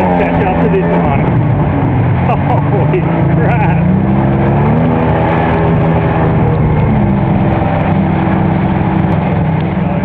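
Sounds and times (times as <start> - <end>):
jet ski engine running: 0.0 - 10.0
rushing water: 0.0 - 10.0
wind: 0.0 - 10.0.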